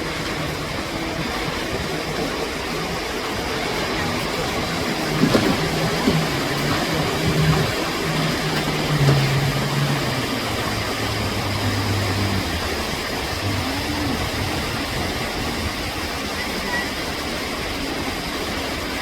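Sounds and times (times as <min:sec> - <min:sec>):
motor engine running: 0:00.0 - 0:18.1.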